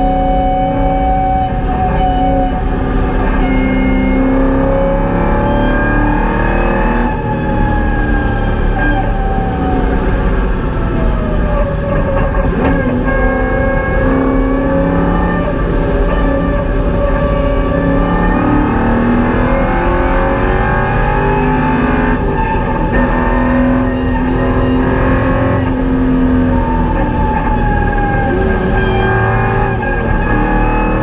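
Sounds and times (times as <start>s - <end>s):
car engine running hard: 0.0s - 31.0s.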